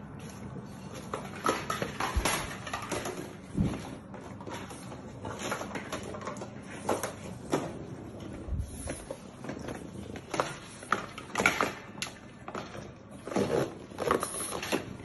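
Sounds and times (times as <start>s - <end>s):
puppies scrabbling in wire pen: 0.3s - 15.0s.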